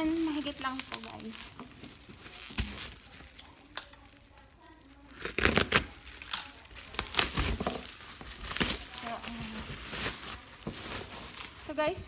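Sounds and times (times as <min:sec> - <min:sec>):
plastic wrapping crinkling and ripping: 0:00.0 - 0:12.0.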